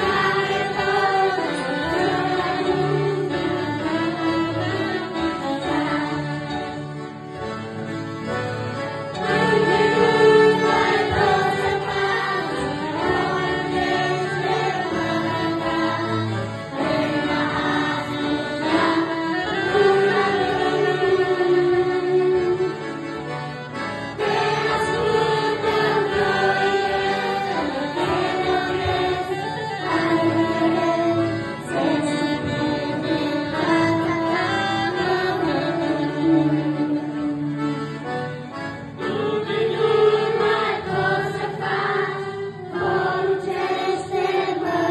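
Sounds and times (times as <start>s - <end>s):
children's choir singing: 0.0s - 8.5s, 9.1s - 44.9s
alto saxophone: 0.0s - 43.9s
accordion: 0.0s - 44.9s.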